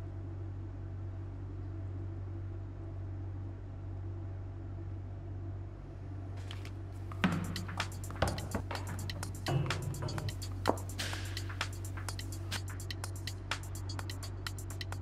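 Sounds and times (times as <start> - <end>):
low hum with faint hiss: 0.0 - 15.0.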